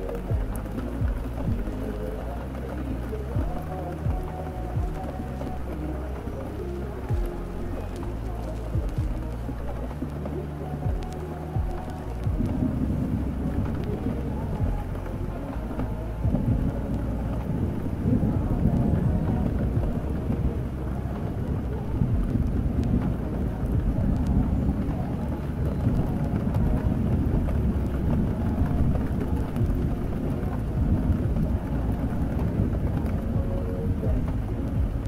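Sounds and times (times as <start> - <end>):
deep low rumble: 0.0 - 35.0
steady rain: 0.0 - 35.0.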